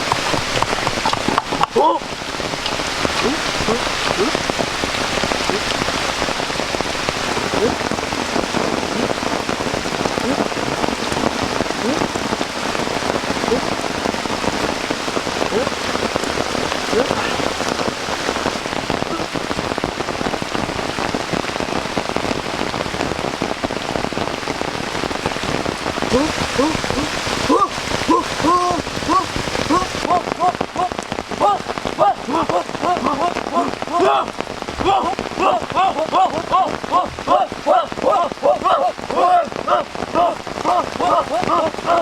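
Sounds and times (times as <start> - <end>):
heavy rain falling: 0.0 - 42.0
raindrops plinking: 0.0 - 42.0.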